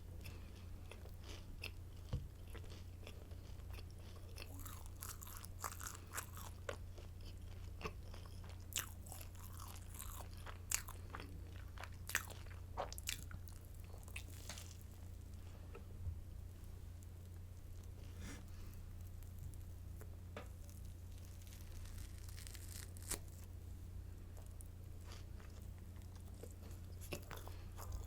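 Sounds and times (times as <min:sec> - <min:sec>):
chewing crunchy bread: 0:00.2 - 0:15.9, 0:17.0 - 0:23.5, 0:24.3 - 0:28.0.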